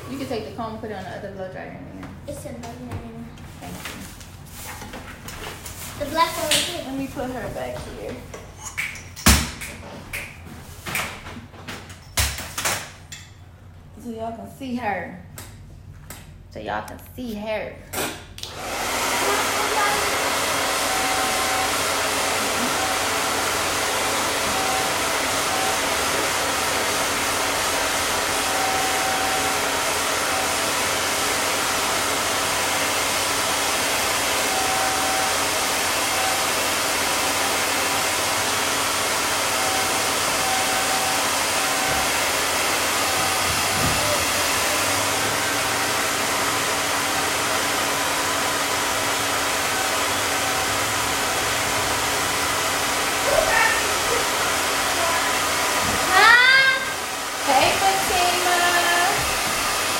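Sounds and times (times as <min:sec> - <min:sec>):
blow dryer running: 0:00.0 - 0:08.5, 0:18.0 - 0:59.9.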